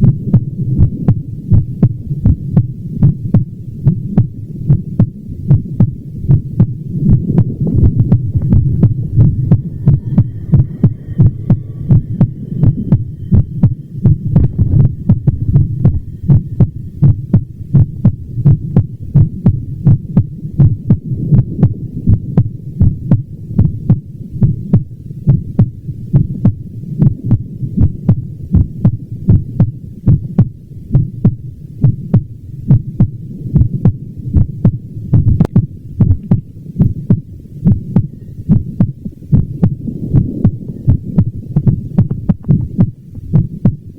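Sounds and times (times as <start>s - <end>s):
continuous low rumble: 0.0s - 43.9s
heartbeat: 0.0s - 43.9s.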